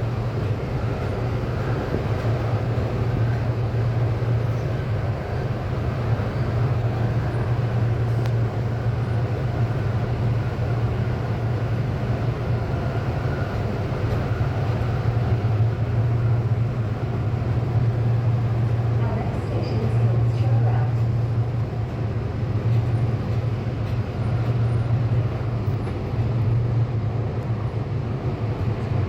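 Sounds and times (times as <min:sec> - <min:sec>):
train rumble and hum: 0:00.0 - 0:29.0.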